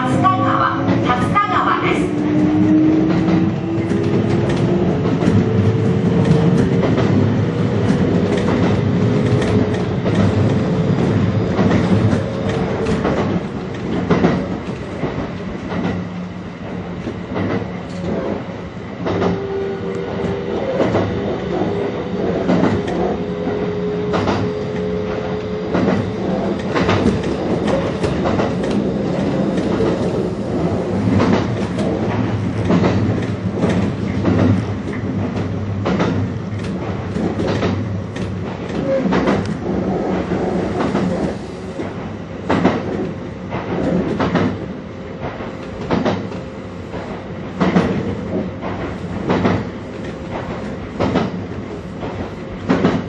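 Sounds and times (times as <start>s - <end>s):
train wheels knocking over rail joints: 2.1s - 16.2s, 19.0s - 44.6s, 45.2s - 53.0s.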